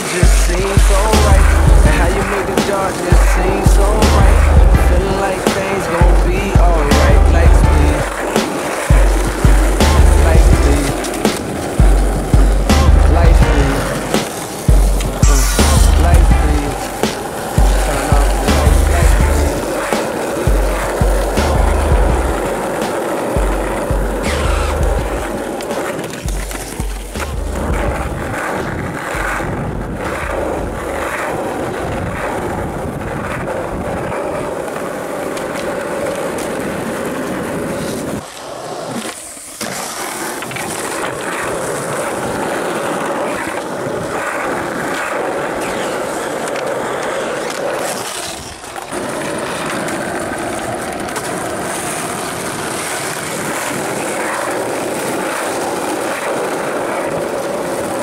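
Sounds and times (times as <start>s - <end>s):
skateboard wheels rolling on asphalt: 0.0s - 58.0s.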